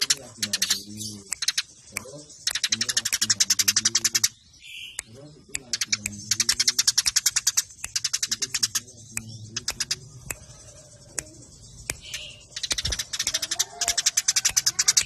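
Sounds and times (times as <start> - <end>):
sparrows chattering sharp chirps: 0.0 - 15.0.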